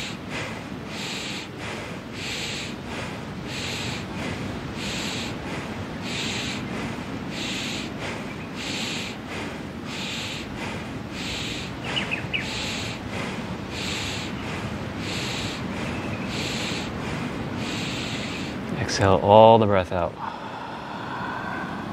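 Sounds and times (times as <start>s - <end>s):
forceful breaths through nose: 0.0s - 18.8s, 20.1s - 21.9s.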